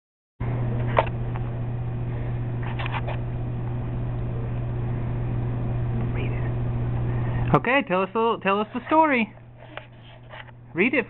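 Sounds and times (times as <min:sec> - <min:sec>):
low electrical hum: 0:00.4 - 0:11.0.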